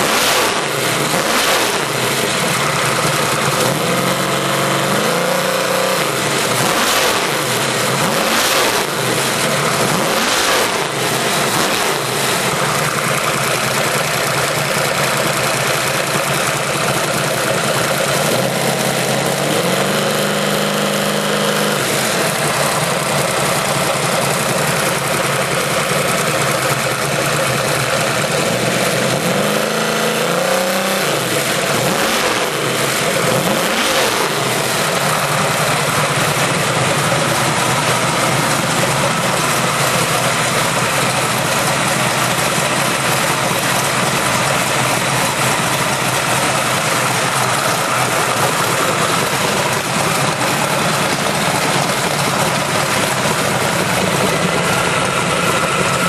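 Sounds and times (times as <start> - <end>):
engine revving and idling: 0.0 - 56.0.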